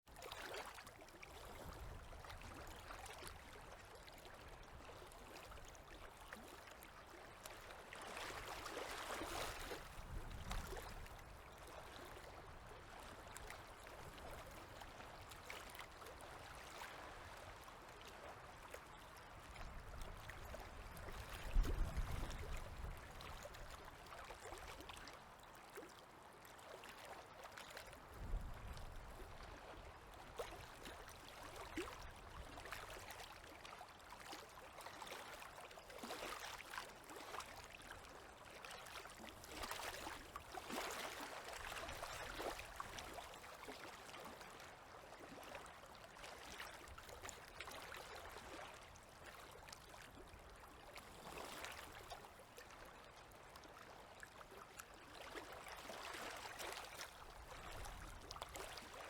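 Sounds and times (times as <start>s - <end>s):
small waves lapping at shore: 0.1s - 59.0s.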